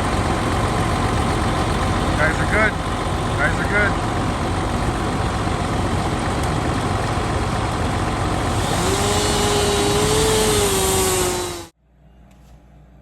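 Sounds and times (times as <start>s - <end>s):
engine running under load: 0.0s - 11.8s
steady whine: 0.0s - 11.8s.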